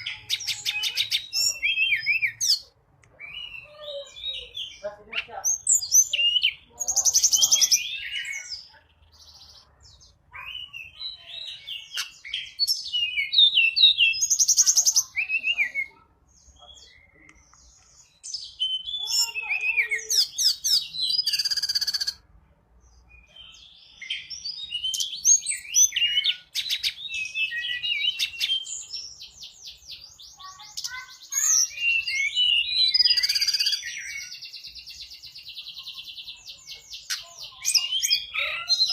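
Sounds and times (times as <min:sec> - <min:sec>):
bird chattering and trilling: 0:00.0 - 0:22.3, 0:23.1 - 0:38.9.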